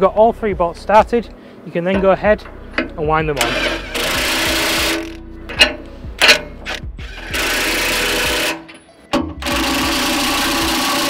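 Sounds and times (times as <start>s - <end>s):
impact wrench hammering: 1.9s - 11.0s.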